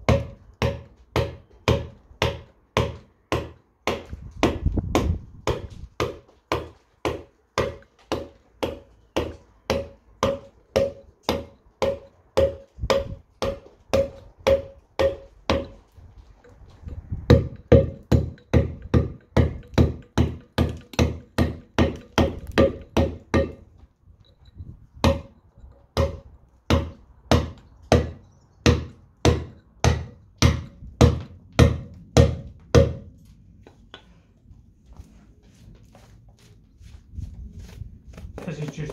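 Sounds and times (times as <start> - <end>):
mallet striking steel chisel: 0.0 - 33.1.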